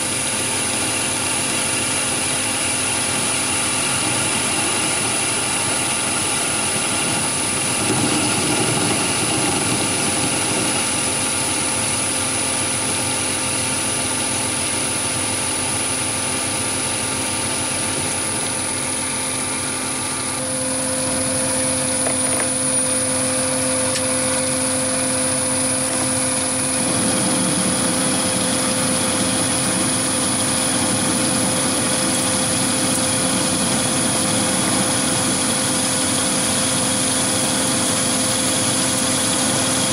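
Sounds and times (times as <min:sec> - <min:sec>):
lathe machine whine: 0:00.0 - 0:39.9.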